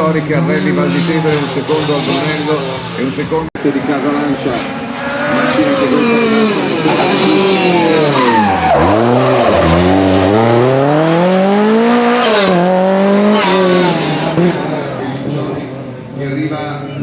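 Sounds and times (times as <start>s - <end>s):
car engine revving and accelerating: 0.0s - 16.1s.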